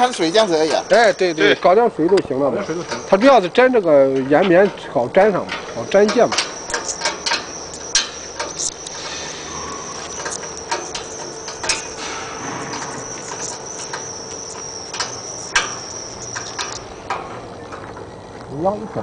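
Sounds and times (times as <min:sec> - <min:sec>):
steady high-pitched whine: 0:00.0 - 0:19.0.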